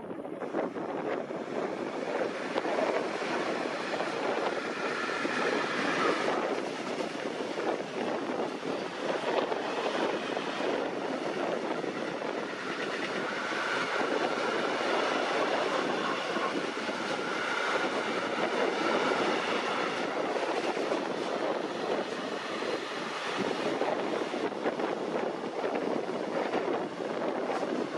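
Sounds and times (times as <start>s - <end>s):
train wheels on rail: 0.2s - 27.9s.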